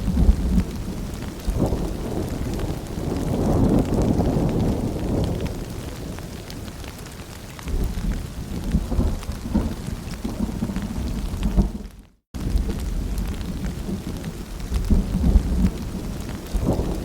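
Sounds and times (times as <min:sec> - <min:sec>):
low rolling thunder: 0:00.0 - 0:07.0, 0:07.6 - 0:17.0
rain falling: 0:00.0 - 0:17.0
raindrops ticking: 0:00.0 - 0:17.0.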